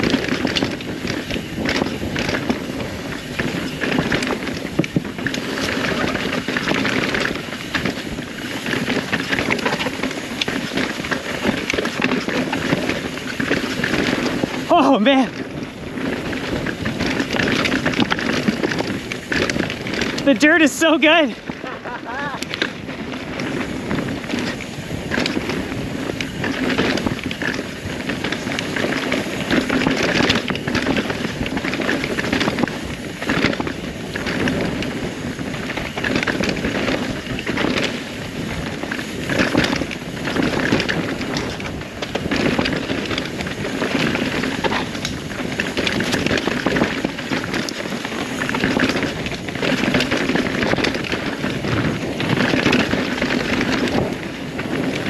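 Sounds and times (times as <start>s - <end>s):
bike knocks and rattles: 0.0s - 55.0s
tyres on dirt: 0.0s - 55.0s
wind on microphone: 0.0s - 55.0s.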